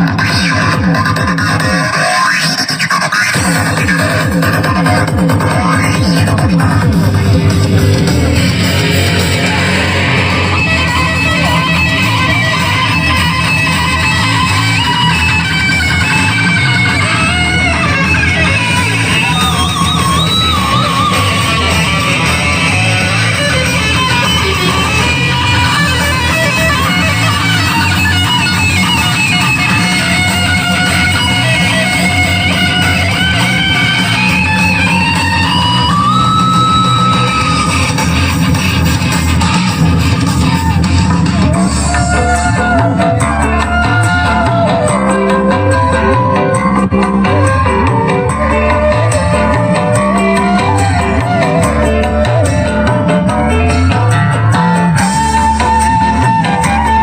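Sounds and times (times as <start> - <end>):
rock music with electric guitar: 0.0 - 57.0.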